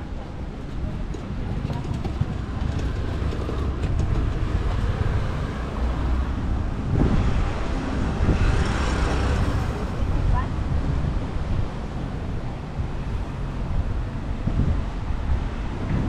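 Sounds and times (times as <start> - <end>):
low rumble of road noise: 0.0 - 16.0.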